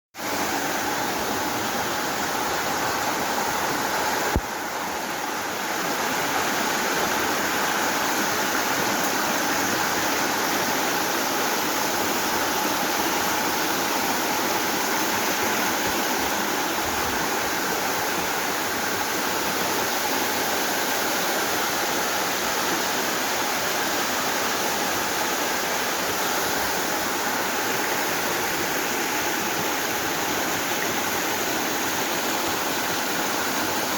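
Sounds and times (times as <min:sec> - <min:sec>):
flowing water rushing: 0:00.2 - 0:33.9.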